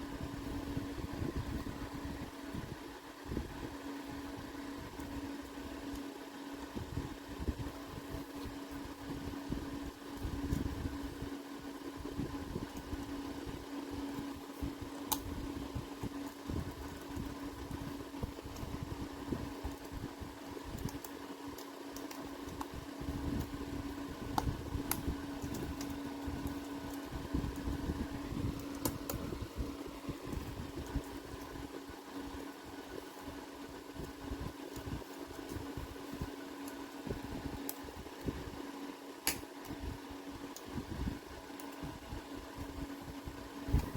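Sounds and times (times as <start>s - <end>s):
fan hum with low rumble: 0.0s - 43.9s.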